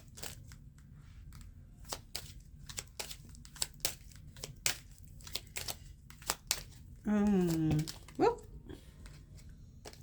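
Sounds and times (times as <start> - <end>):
cards being shuffled: 0.0 - 8.3, 8.9 - 10.0.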